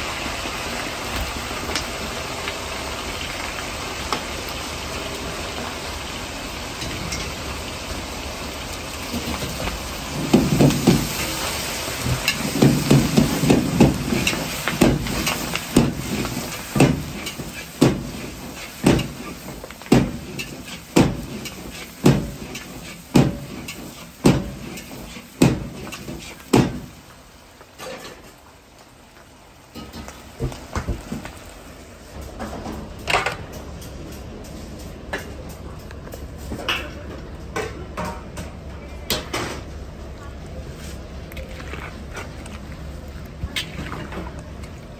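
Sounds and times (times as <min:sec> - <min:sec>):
gas burner roaring: 0:00.0 - 0:41.3.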